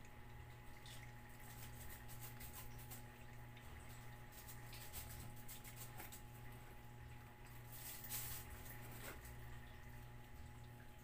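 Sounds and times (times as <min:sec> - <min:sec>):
cats chewing and licking: 0:00.0 - 0:11.0
steady low hum: 0:00.0 - 0:11.0.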